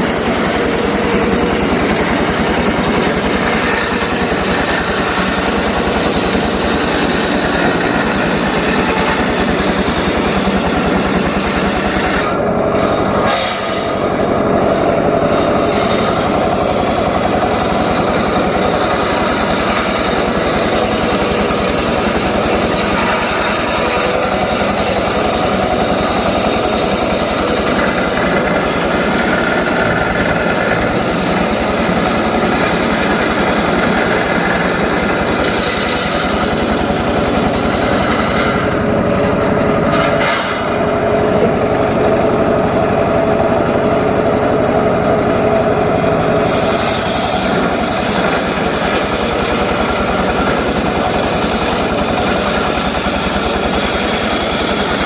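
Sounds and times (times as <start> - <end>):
power saw engine running: 0.0 - 55.0.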